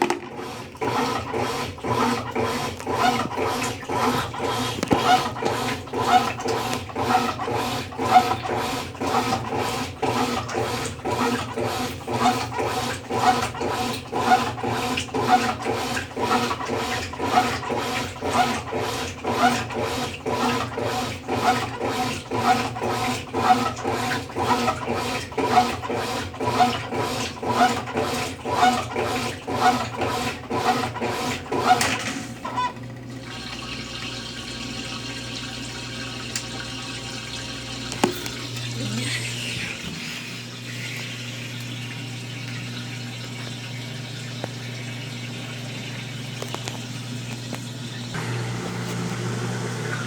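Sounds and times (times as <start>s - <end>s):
washing machine agitator swishing: 0.0s - 50.0s
washing machine motor hum: 0.0s - 50.0s.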